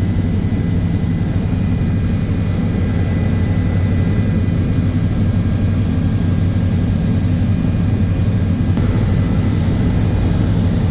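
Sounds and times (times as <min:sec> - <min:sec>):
aircraft engines droning: 0:00.0 - 0:10.9.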